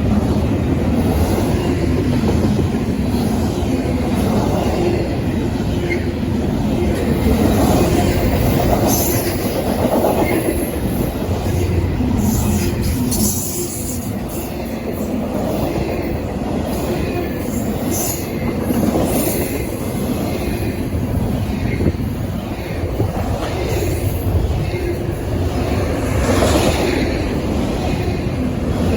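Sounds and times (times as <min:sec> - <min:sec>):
freight train rumbling past: 0:00.0 - 0:28.9.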